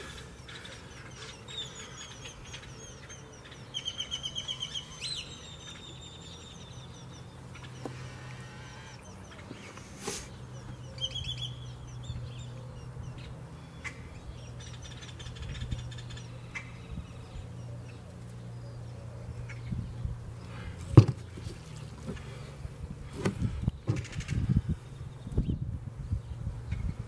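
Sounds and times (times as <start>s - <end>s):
bird chirping: 0.0s - 22.6s.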